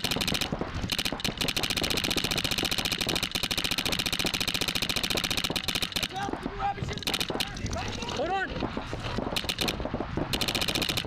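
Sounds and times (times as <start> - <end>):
paintball marker rapid firing: 0.0 - 8.1, 9.1 - 11.0.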